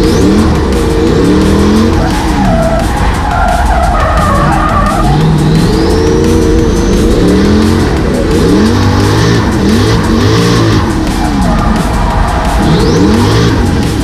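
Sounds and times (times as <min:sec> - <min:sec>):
car engine revving hard: 0:00.0 - 0:14.0
tyres squealing: 0:00.2 - 0:13.9.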